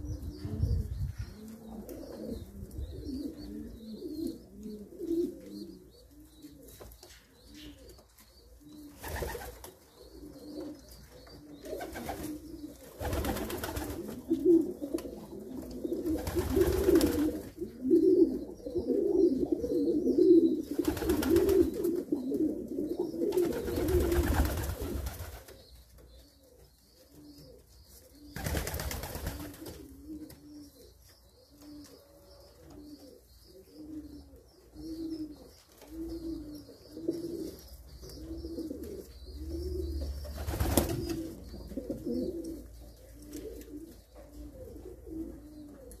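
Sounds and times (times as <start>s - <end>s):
pigeon cooing: 0.0s - 46.0s.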